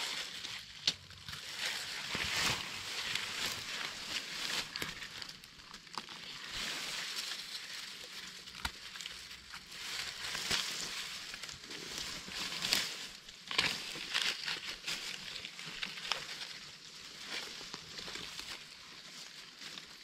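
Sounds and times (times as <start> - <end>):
leaf litter rustling and crackling: 0.0 - 20.0.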